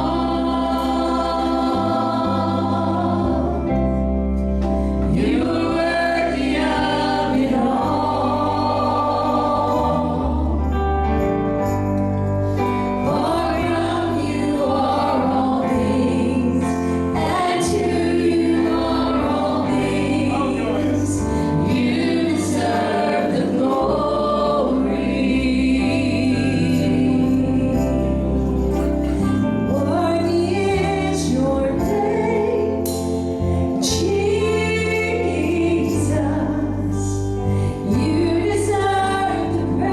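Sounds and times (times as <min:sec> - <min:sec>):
gospel choir singing: 0:00.0 - 0:39.9
instrumental accompaniment with bass: 0:00.0 - 0:39.9.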